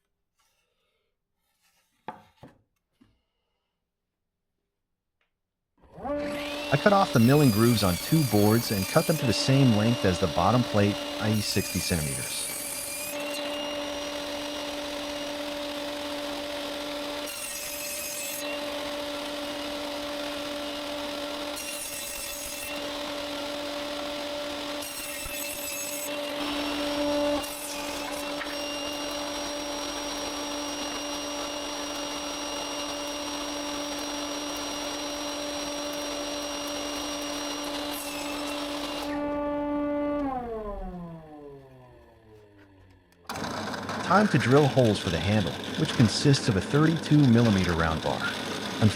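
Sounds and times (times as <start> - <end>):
saw cutting through boards: 5.8 - 48.9
table saw humming: 5.8 - 48.9.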